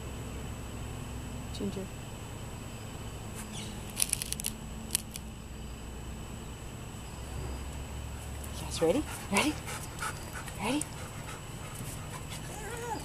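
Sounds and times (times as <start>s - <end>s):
outdoor background hum: 0.0s - 13.0s.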